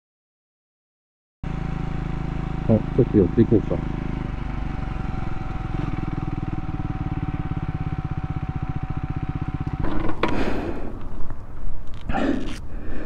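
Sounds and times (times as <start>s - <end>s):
single-cylinder engine running: 1.4s - 12.1s.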